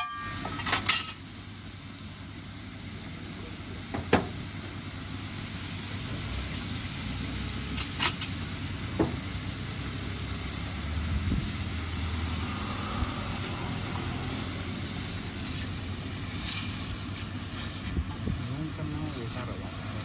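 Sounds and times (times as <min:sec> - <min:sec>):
low engine-like rumble: 0:00.0 - 0:20.0.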